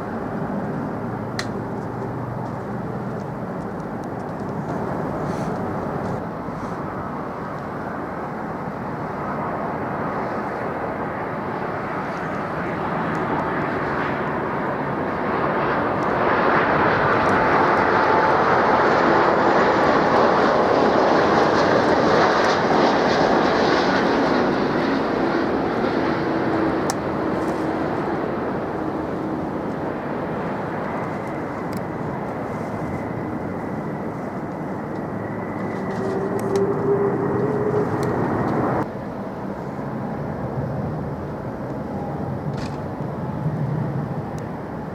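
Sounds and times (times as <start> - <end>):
jet airliner engine roar: 0.0 - 44.9.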